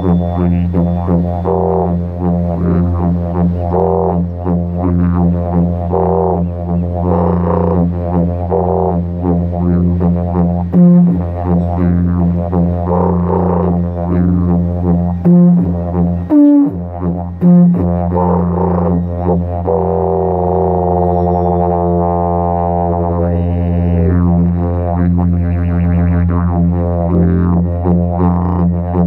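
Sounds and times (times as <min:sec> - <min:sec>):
didgeridoo drone: 0:00.0 - 0:29.0
didgeridoo rising toot: 0:00.0 - 0:29.0.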